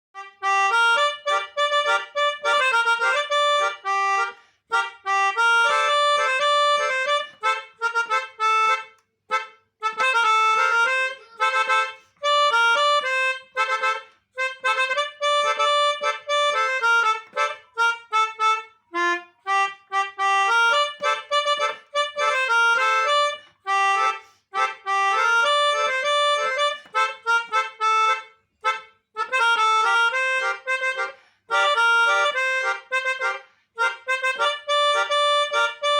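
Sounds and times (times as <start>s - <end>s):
melodica melody: 0.1s - 35.9s.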